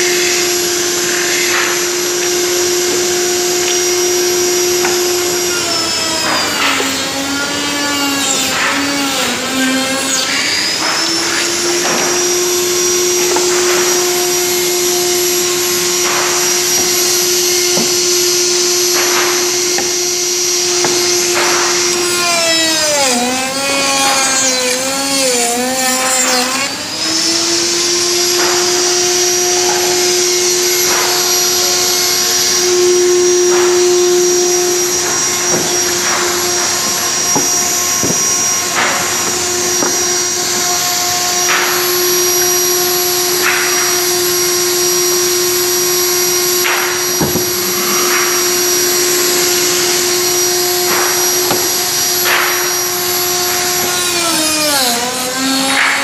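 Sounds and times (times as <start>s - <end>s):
power tool motor whine: 0.0s - 56.0s.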